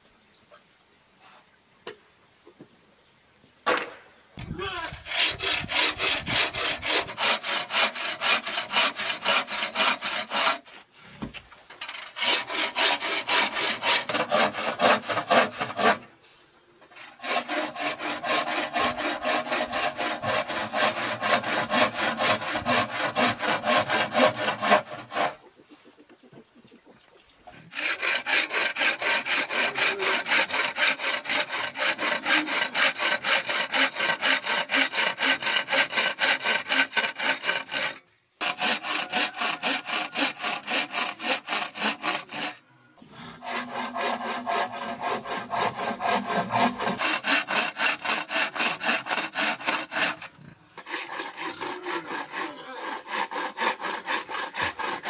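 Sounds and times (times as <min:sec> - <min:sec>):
hacksaw cutting bamboo: 0:04.5 - 0:10.8, 0:11.7 - 0:16.1, 0:16.8 - 0:25.4, 0:27.6 - 0:42.6, 0:43.4 - 0:55.0.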